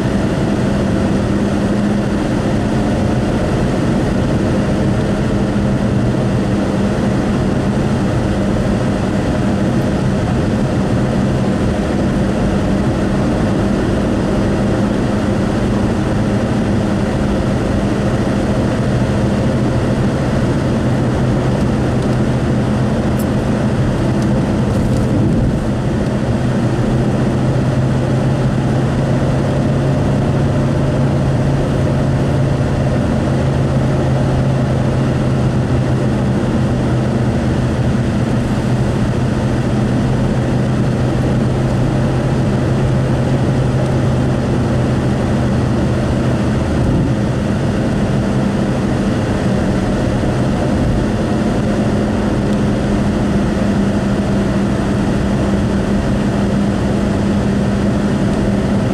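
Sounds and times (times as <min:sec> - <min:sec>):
low engine drone: 0:00.0 - 0:58.9
tyre and road rumble: 0:00.0 - 0:58.9.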